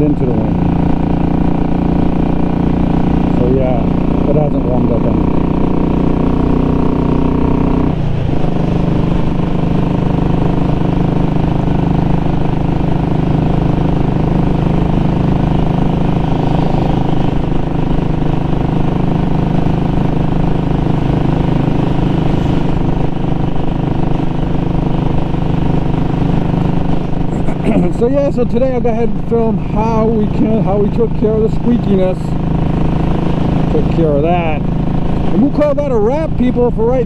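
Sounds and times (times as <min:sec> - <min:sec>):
motorcycle engine cruising: 0:00.0 - 0:37.0.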